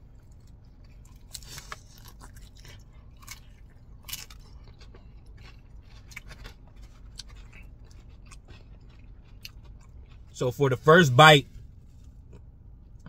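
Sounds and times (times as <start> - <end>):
person chewing crispy chicken: 0.0 - 13.0.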